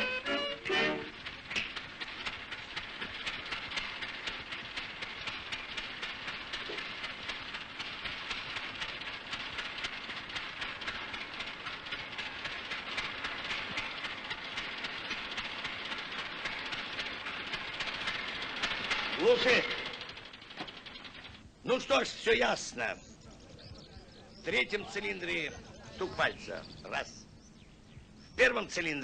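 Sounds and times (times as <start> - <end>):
car engine running with ticking knock: 0.0 - 22.0, 23.0 - 28.4.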